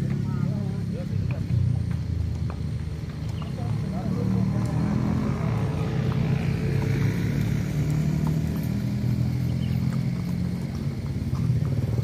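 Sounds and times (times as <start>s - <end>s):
hoofbeats on dirt: 1.1s - 12.0s.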